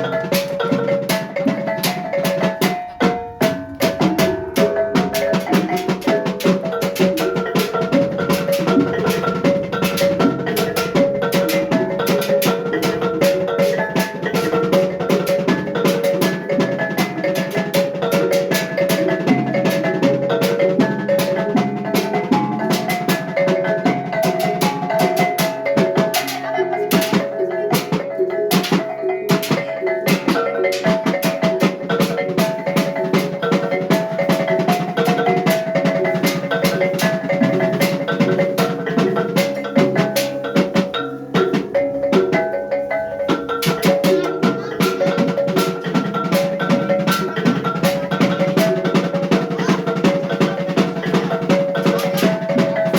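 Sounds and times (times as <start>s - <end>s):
drum and large gongs beat: 0.0s - 52.9s.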